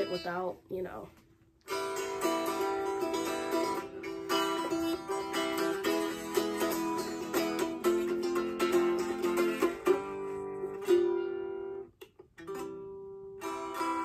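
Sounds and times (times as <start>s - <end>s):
ukulele plucked notes and chords: 0.0s - 0.5s, 1.7s - 14.0s.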